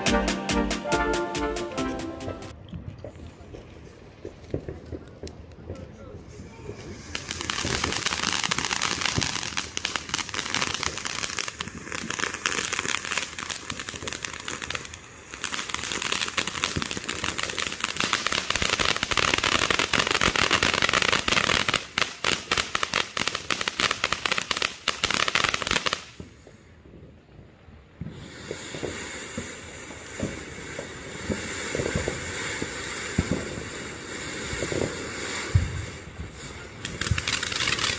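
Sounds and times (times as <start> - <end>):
firework crackling hiss: 6.2 - 26.8, 27.9 - 37.9.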